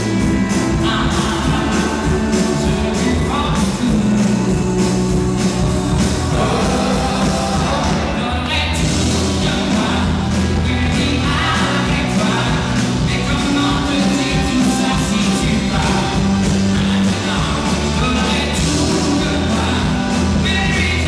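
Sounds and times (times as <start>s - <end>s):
drums: 0.0s - 21.0s
keyboards: 0.0s - 21.0s
male vocalist singing: 0.0s - 21.0s.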